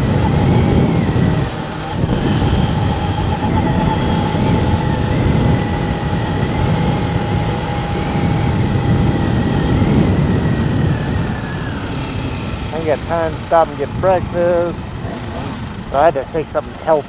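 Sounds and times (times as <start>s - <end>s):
high whine: 0.0s - 17.0s
vehicle engine and road rumble: 0.0s - 17.0s.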